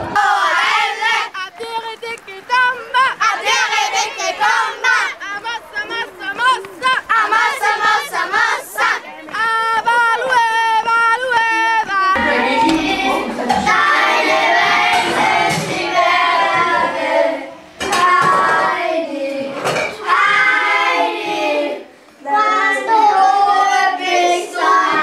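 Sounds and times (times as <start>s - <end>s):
children singing together: 0.0s - 1.6s, 2.5s - 25.0s.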